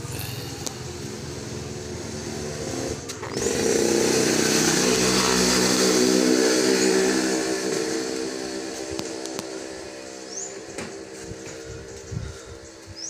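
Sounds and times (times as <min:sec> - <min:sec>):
small engine running: 0:00.0 - 0:12.4.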